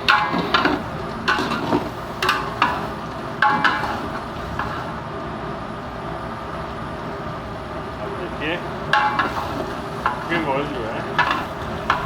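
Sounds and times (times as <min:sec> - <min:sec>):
frying hiss: 0:00.0 - 0:05.6, 0:07.0 - 0:12.0.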